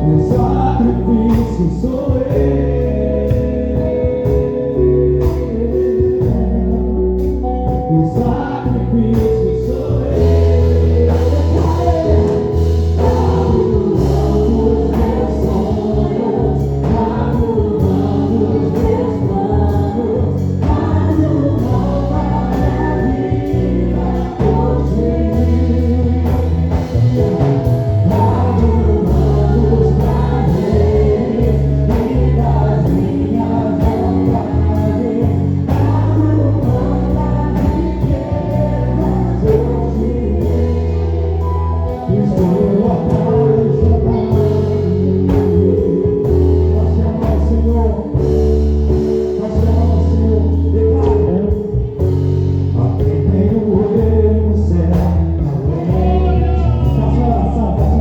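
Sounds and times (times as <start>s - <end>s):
gospel band playing: 0.0s - 58.0s
held bass notes: 0.0s - 58.0s
people singing: 0.0s - 58.0s.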